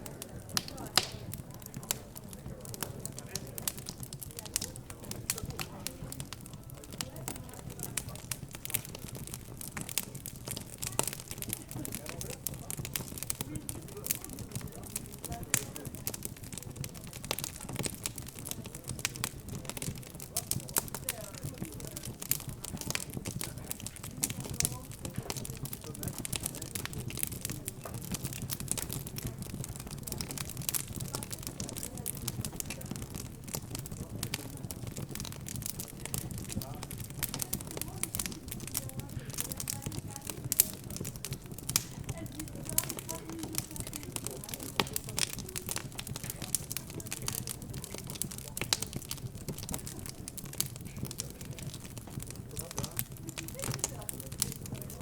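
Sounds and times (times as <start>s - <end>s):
fireplace fire crackling: 0.0s - 55.0s
murmur of background chatter: 0.0s - 55.0s.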